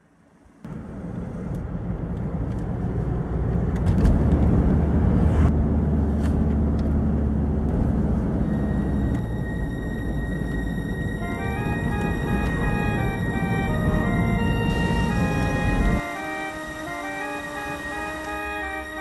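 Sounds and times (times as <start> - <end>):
car engine and tyre rumble: 0.4 - 16.0.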